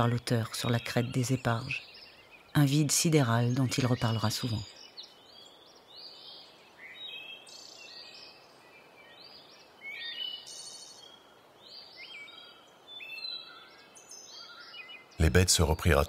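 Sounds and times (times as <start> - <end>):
birds chirping and trilling: 0.0 - 16.0
faint outdoor hiss: 0.0 - 16.0.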